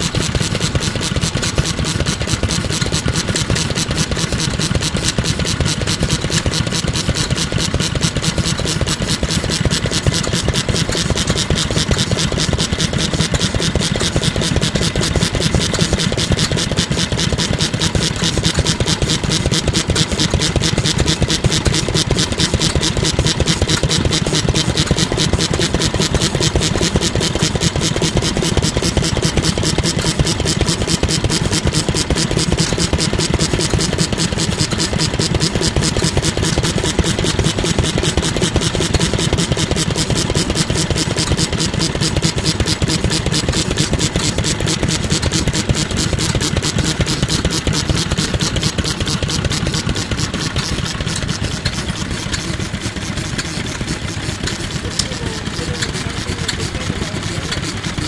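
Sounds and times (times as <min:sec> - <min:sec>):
single-cylinder engine running: 0:00.0 - 0:58.0.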